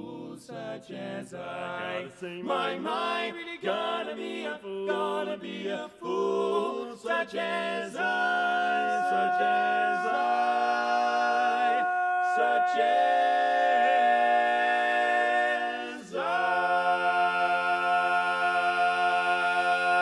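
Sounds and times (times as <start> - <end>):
male vocal quartet singing a cappella: 0.0 - 20.0.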